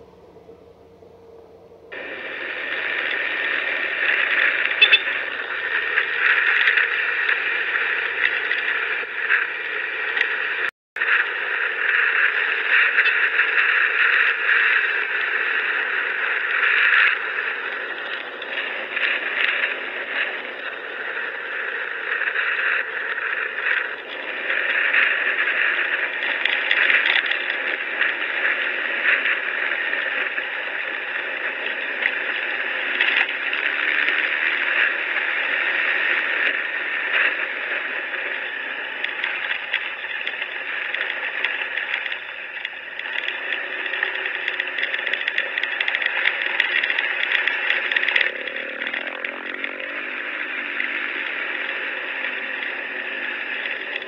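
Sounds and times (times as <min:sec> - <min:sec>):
motorcycle engine: 0:00.0 - 0:54.0
tyres on the road: 0:00.0 - 0:54.0.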